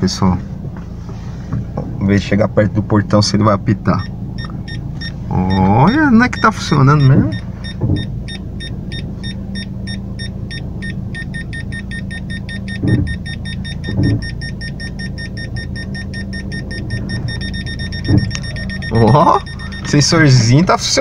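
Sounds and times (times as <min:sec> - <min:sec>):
car engine idling: 0:00.0 - 0:21.0
parking sensor beeping: 0:03.8 - 0:21.0.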